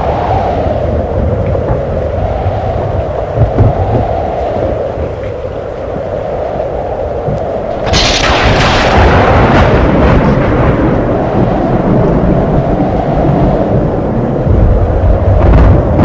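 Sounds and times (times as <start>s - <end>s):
low thunder rumble: 0.0s - 16.0s
thunderclap: 0.9s - 6.0s, 7.2s - 16.0s.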